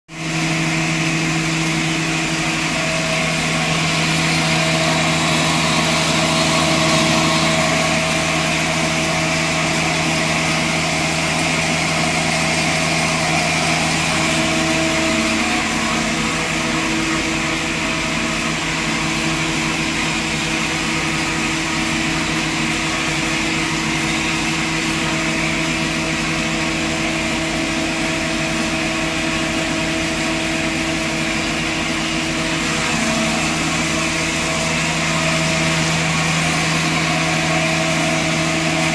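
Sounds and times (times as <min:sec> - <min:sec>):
flour mill machine hum: 0:00.1 - 0:38.9
flour rushing through pipe: 0:00.2 - 0:38.9.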